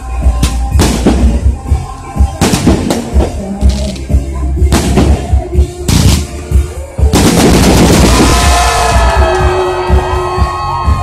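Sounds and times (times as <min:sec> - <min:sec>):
music with heavy beat: 0:00.0 - 0:11.0
fireworks bursting: 0:00.3 - 0:09.2.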